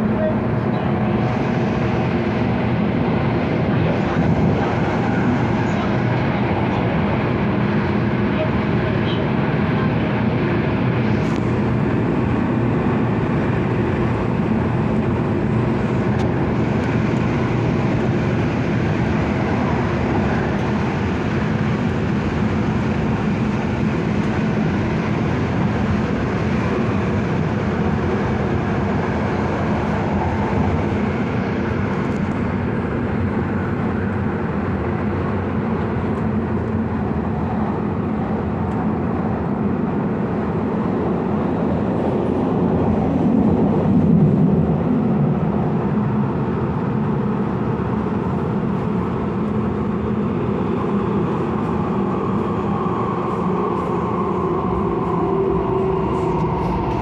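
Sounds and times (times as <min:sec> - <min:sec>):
train running: 0:00.0 - 0:57.0.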